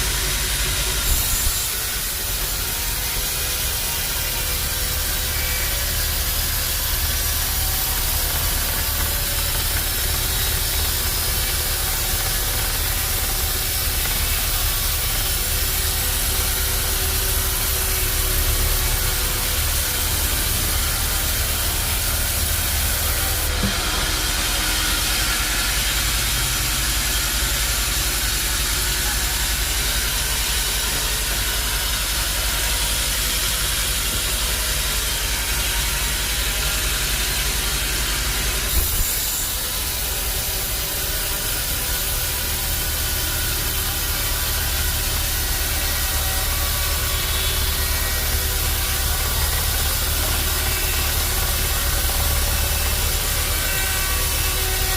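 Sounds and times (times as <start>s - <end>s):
sawmill machinery hum: 0.0s - 54.9s.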